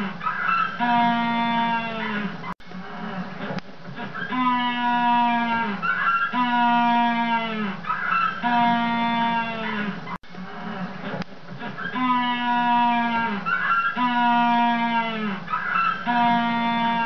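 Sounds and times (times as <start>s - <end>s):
penguin braying: 0.0s - 3.3s, 4.0s - 10.9s, 11.6s - 17.0s.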